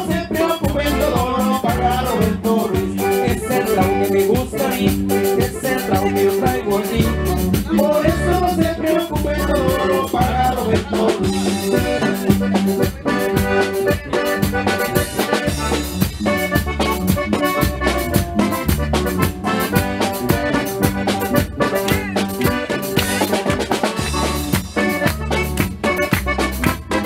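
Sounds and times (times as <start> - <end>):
upbeat dance music: 1.6 - 15.4, 16.8 - 26.9.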